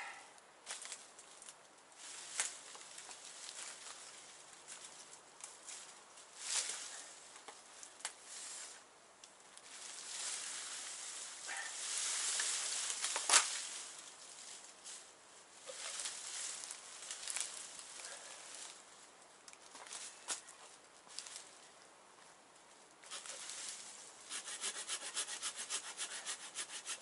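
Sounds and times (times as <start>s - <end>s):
branches and leaves rustling: 0.0s - 27.0s.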